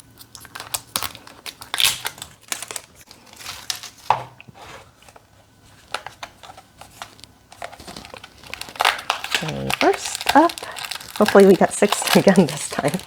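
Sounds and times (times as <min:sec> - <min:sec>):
plastic packaging crinkling: 0:00.0 - 0:04.2, 0:05.0 - 0:13.0.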